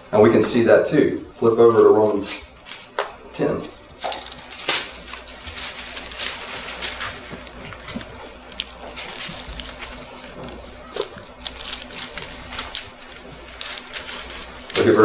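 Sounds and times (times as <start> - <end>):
steady low hum: 0.0 - 15.0
pages rustling: 1.3 - 15.0.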